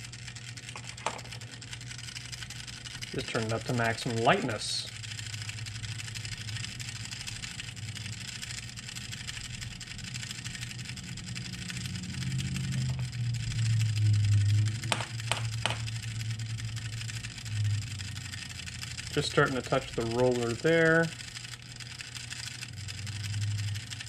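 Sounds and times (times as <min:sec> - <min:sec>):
toaster timer humming and ticking: 0:00.0 - 0:24.0.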